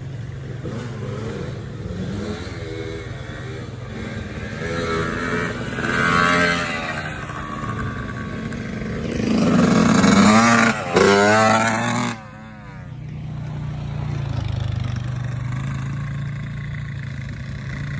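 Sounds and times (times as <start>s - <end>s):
dirt bike engine revving: 0.1s - 17.9s.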